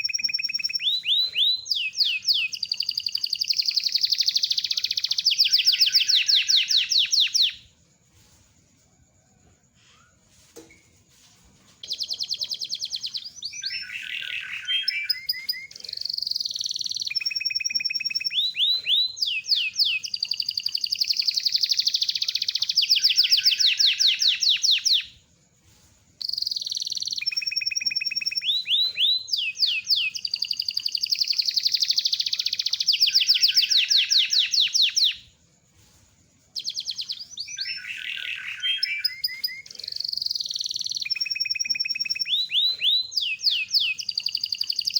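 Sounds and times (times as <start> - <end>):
canary singing trills: 0.0 - 7.7, 11.8 - 25.2, 26.2 - 35.3, 36.5 - 44.9.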